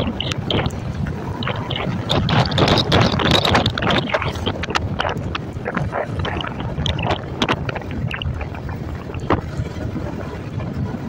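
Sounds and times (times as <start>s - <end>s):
motorcycle engine rumble: 0.0s - 11.0s
wind buffeting microphone: 0.0s - 11.0s
wind crackling pops: 0.0s - 11.0s.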